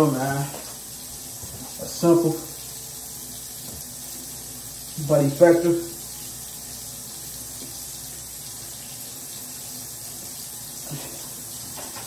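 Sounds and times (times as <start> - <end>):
faucet water splashing into basin: 0.0 - 12.0.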